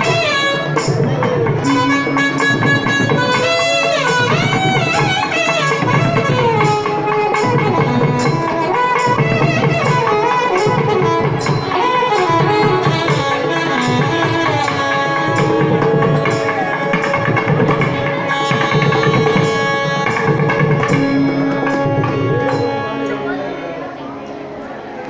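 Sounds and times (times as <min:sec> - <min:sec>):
hand drum playing: 0:00.0 - 0:24.2
flute: 0:00.0 - 0:25.0
saxophone: 0:00.0 - 0:25.0
violin: 0:00.0 - 0:25.0.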